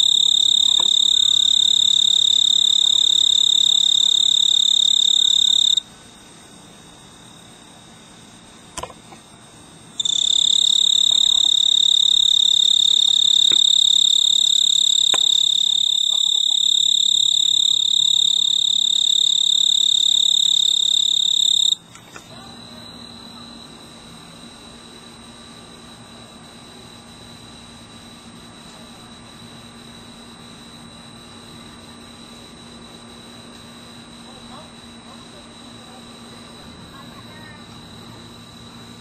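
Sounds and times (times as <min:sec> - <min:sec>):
cricket trilling: 0:00.0 - 0:39.0.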